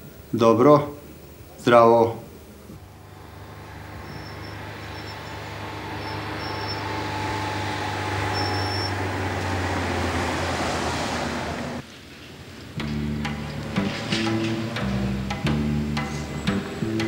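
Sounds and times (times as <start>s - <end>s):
tyres rushing on road: 2.4s - 17.0s
car engine hum: 2.6s - 11.8s, 12.4s - 17.0s.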